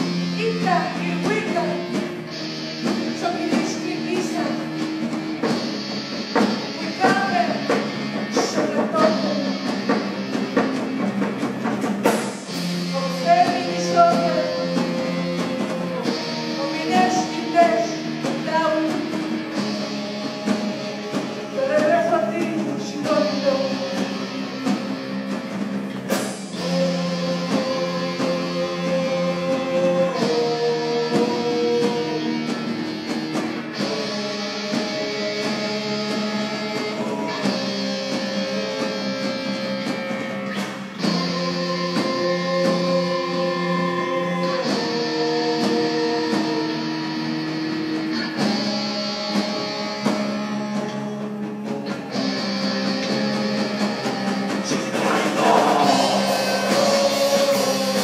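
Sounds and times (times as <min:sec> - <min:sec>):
person singing: 0:00.0 - 0:10.2, 0:12.5 - 0:25.2, 0:26.5 - 0:58.0
bass guitar: 0:00.0 - 0:58.0
drums: 0:00.0 - 0:58.0
electric guitar: 0:00.0 - 0:58.0.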